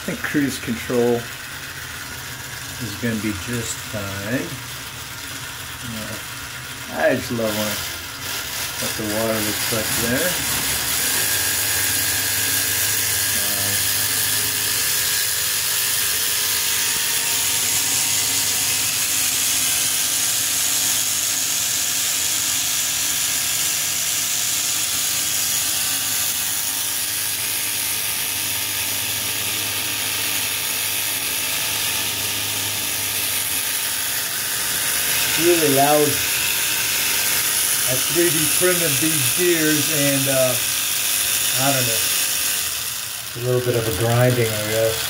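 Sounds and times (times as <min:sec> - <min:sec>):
loud grinding of plastic gears: 0:00.0 - 0:45.0
small electric motor running: 0:00.0 - 0:45.0.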